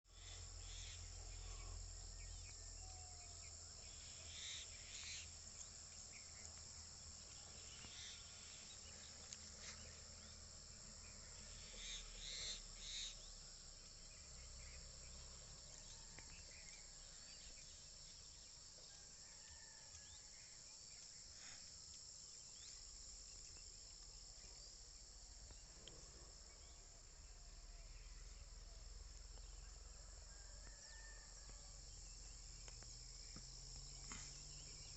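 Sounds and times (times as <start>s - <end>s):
insects chorus: 0.1s - 34.9s
sharp insect calls: 0.1s - 34.9s.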